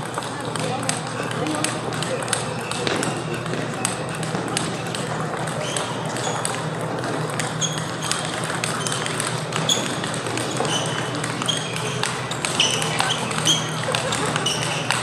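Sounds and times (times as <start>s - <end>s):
table tennis balls clicking: 0.0s - 15.0s.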